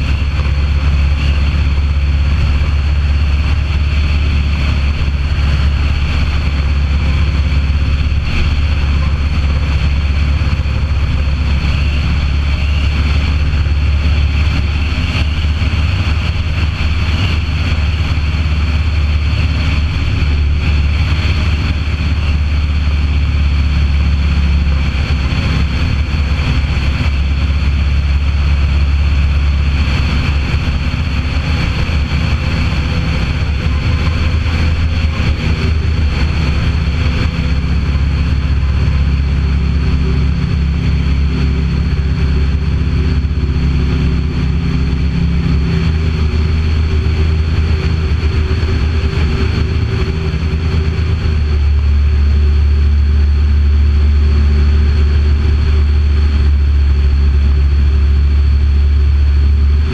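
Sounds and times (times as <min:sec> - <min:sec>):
aircraft engine drone: 0:00.0 - 0:59.9.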